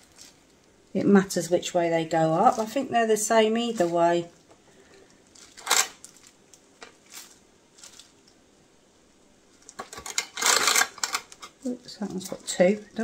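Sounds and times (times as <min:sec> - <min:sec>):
plastic glove crinkling: 0:00.0 - 0:08.5, 0:09.4 - 0:13.0.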